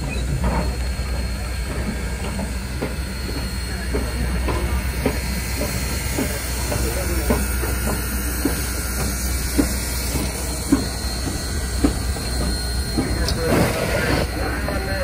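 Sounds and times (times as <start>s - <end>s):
locomotive clanking: 0.0s - 15.0s
steam locomotive hissing and rumbling: 0.0s - 15.0s.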